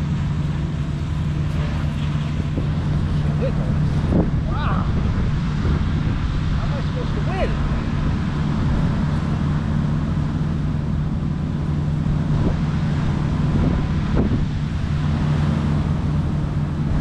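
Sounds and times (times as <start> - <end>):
low rumble of road traffic: 0.0 - 17.0
wind noise on microphone: 0.8 - 17.0.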